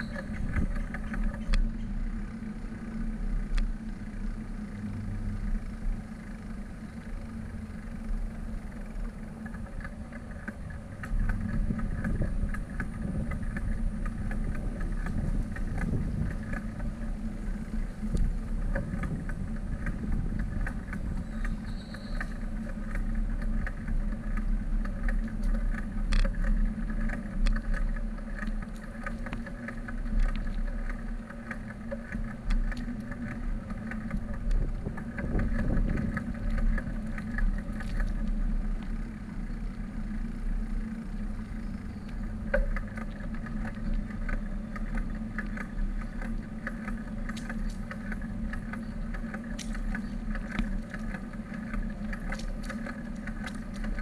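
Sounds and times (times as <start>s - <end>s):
bicycle rattling clicks: 0.0s - 54.0s
bicycle tyres on pavement: 0.0s - 54.0s
wind rumble on microphone: 0.0s - 54.0s.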